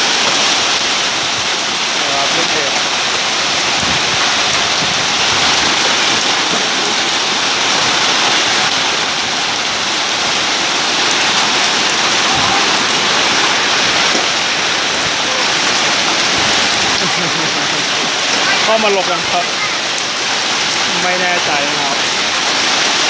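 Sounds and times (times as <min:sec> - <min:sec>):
hail and heavy rain pelting: 0:00.0 - 0:23.0.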